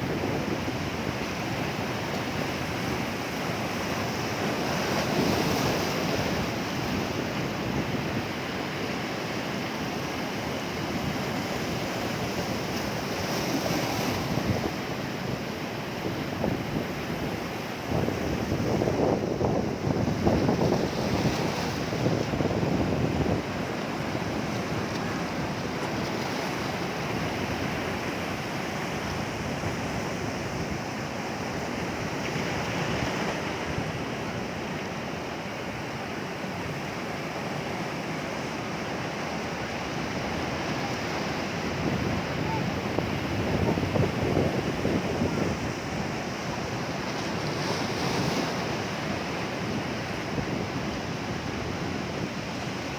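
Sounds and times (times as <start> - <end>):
sea waves breaking on shore: 0.0 - 52.9.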